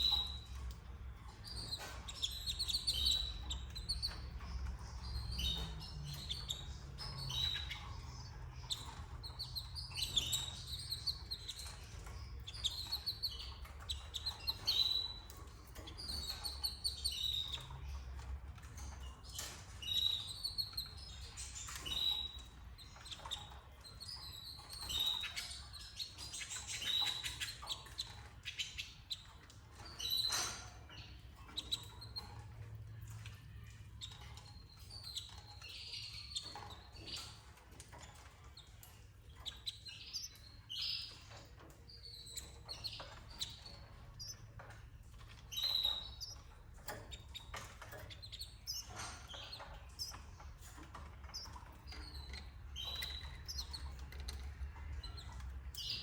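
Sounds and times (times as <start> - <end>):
canaries chirping: 0.0 - 56.0.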